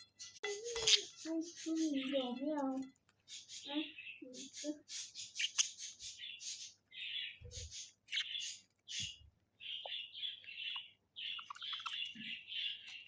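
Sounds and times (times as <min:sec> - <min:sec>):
budgerigars chirping: 0:00.0 - 0:02.4, 0:03.2 - 0:13.0.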